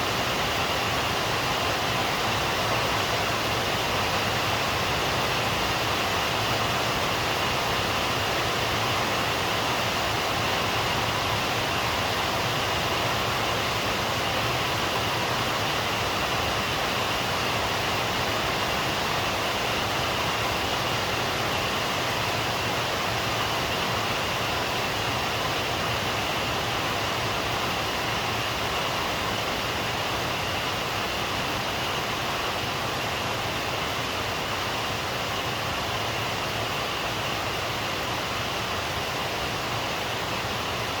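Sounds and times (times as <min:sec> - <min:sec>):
steady rain hiss: 0:00.0 - 0:41.0.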